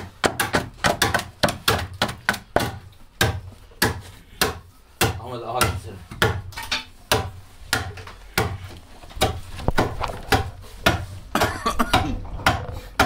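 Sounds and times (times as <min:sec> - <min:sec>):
adze chopping into wood: 0:00.2 - 0:08.6, 0:09.2 - 0:11.1, 0:11.9 - 0:13.0.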